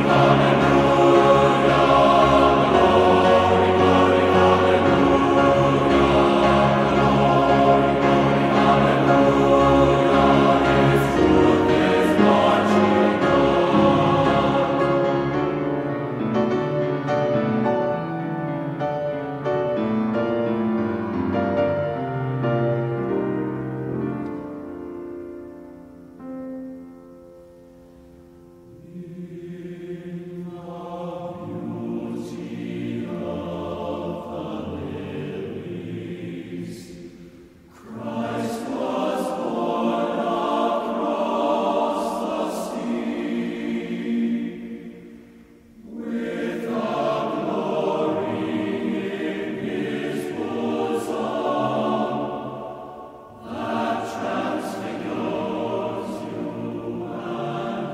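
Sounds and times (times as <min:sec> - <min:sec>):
choir singing sustained chords: 0:00.0 - 0:57.9.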